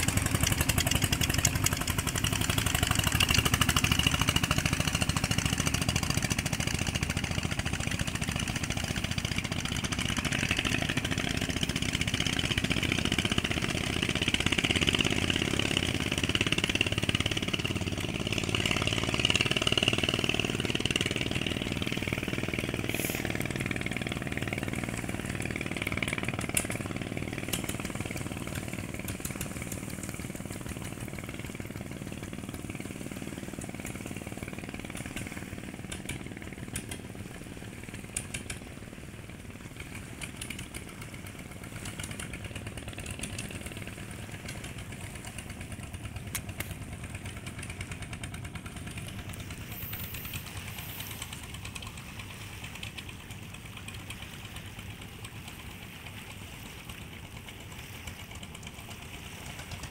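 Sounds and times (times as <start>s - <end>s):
speedboat motors droning: 0.0s - 59.9s.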